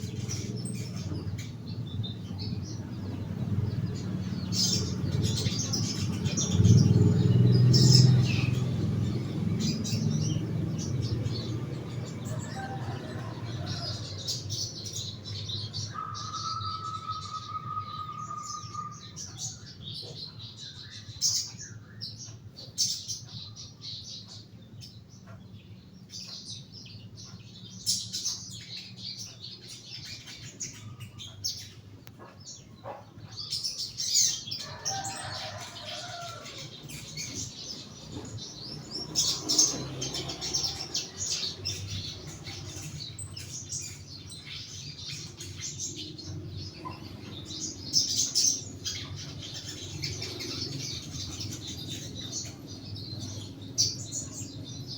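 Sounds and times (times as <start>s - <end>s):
bird chirping high calls: 0.0s - 54.9s.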